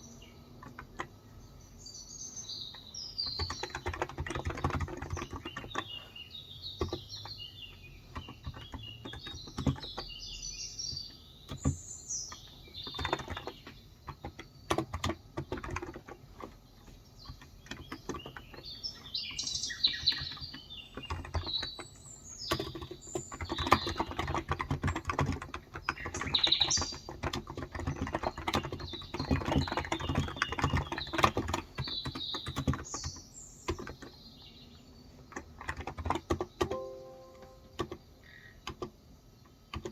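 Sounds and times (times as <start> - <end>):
birds chirping: 0.0 - 38.8
keyboard typing: 0.6 - 1.2, 2.7 - 34.2, 35.2 - 39.0.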